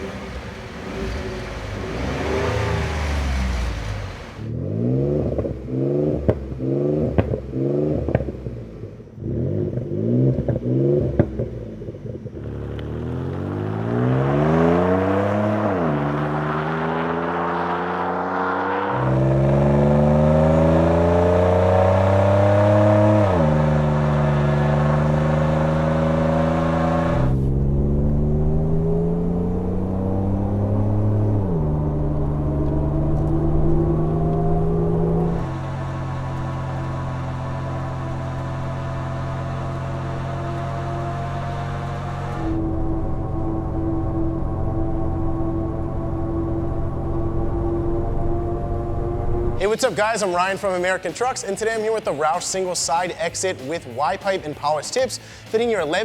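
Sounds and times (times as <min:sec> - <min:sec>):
engine accelerating with gear changes: 0:00.0 - 0:51.8
truck engine revving: 0:00.0 - 0:56.0.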